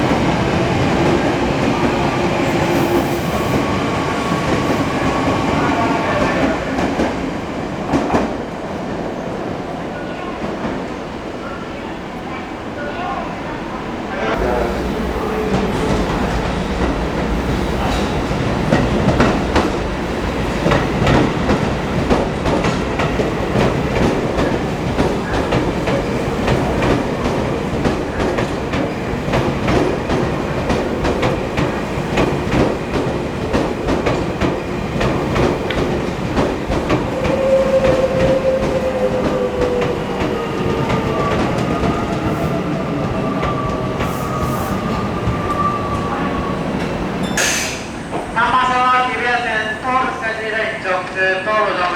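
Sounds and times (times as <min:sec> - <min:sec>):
train clickety-clack over rail joints: 0:00.0 - 0:09.2, 0:14.2 - 0:51.9.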